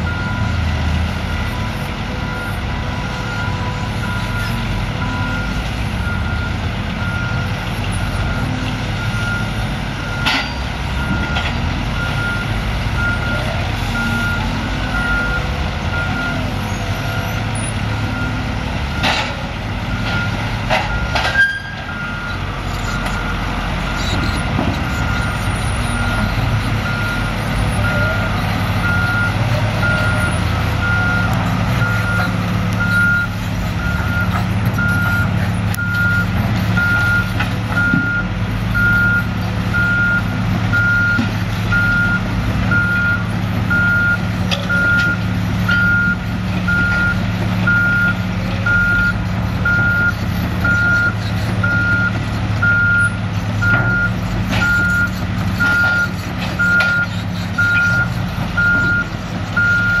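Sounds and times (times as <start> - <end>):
diesel truck engine running: 0.0 - 60.0.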